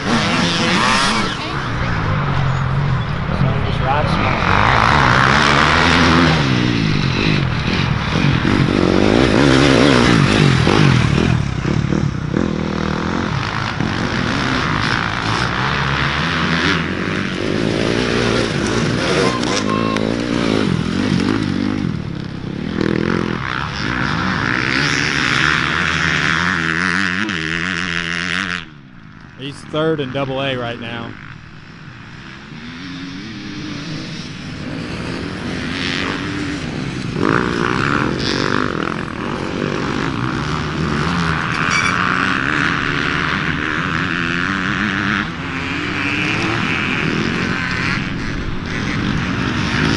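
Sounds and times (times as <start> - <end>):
dirt bike engines racing: 0.0 - 49.9.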